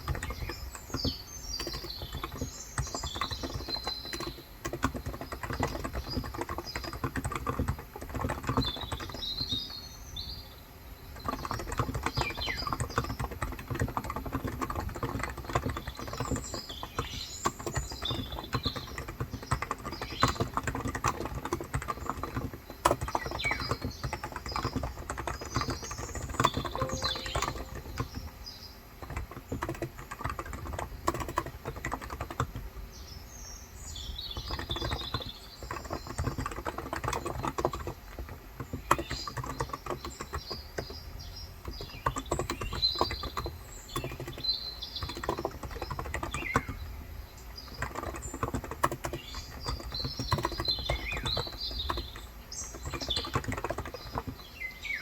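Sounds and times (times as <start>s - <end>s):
birds chirping: 0.0s - 55.0s
fast keyboard typing: 0.0s - 55.0s.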